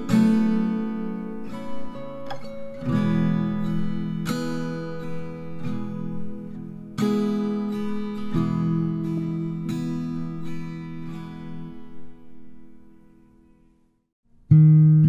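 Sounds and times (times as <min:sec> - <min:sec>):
acoustic guitar strumming chords: 0:00.0 - 0:13.6, 0:14.4 - 0:15.0.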